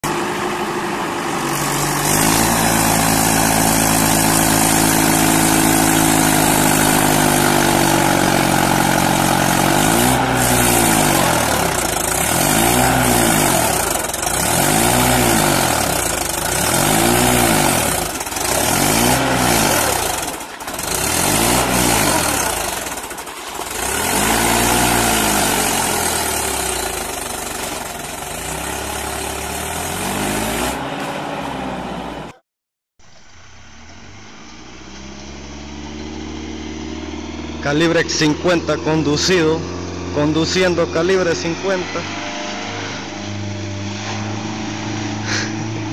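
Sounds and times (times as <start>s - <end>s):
tractor engine revving: 0.0s - 32.4s, 33.1s - 45.9s.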